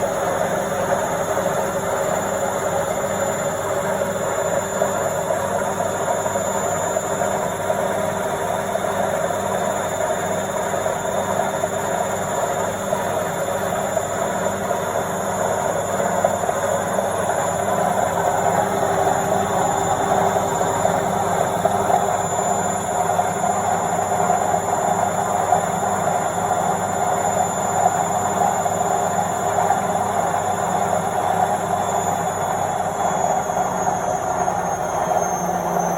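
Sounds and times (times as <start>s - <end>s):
washing machine spinning: 0.0s - 35.9s.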